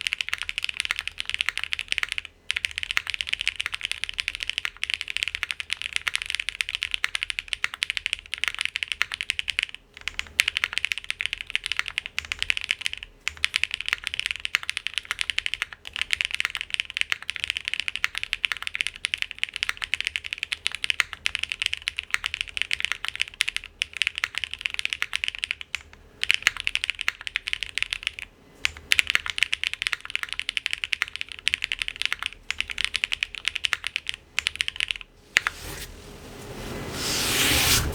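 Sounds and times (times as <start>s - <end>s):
mechanical keyboard typing: 0.0s - 35.8s.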